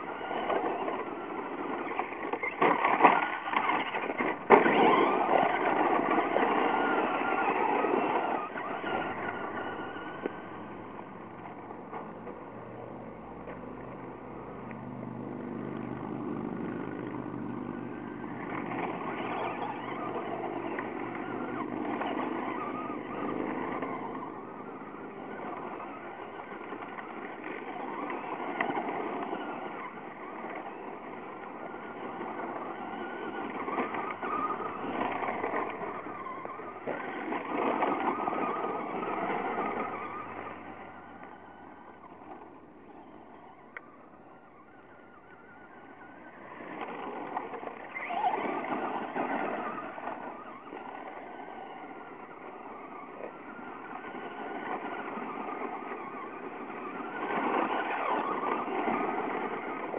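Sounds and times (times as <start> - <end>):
toy truck driving on gravel: 0.0 - 59.9.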